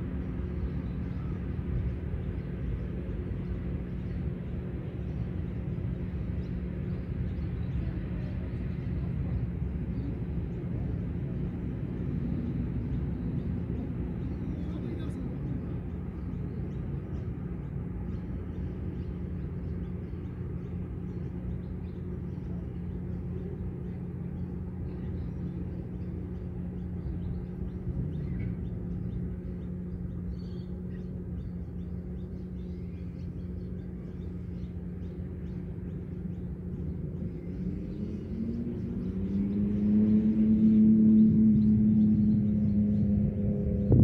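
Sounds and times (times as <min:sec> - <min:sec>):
low drone: 0:00.0 - 0:44.0.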